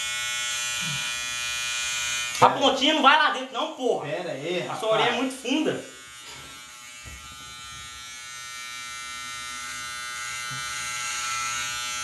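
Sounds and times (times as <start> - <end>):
electric hair clippers buzzing: 0.0 - 3.0, 4.8 - 12.0.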